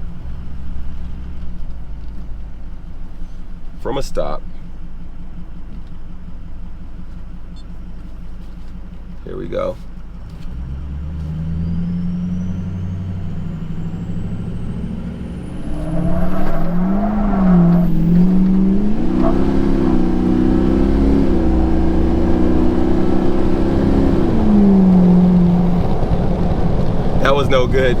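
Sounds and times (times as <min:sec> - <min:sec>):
diesel truck engine accelerating: 0:00.0 - 0:28.0.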